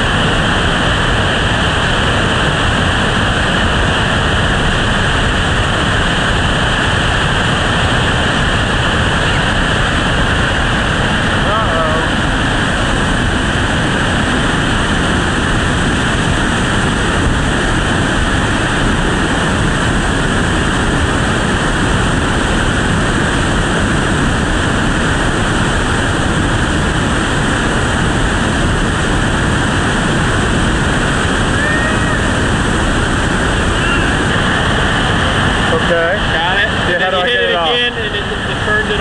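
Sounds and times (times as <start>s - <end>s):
whitewater rapids rushing: 0.0s - 39.0s.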